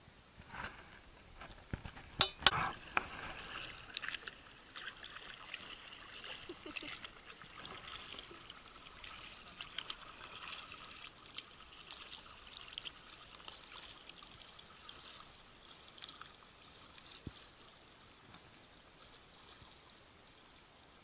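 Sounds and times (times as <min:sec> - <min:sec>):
paddle splashing water: 0:01.8 - 0:20.9.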